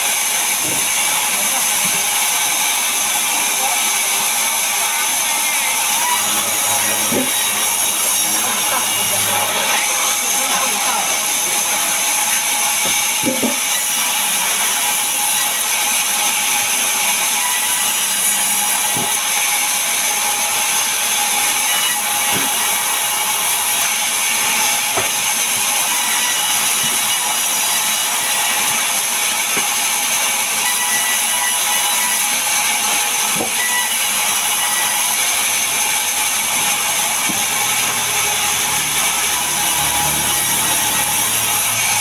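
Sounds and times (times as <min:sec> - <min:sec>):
band saw cutting log: 0:00.0 - 0:42.0.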